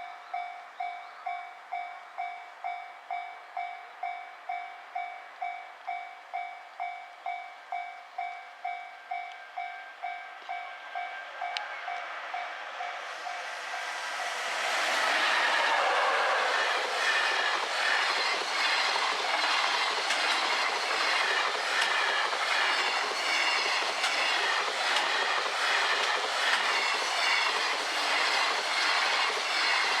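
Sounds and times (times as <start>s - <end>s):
freight train approaching: 0.0s - 30.0s.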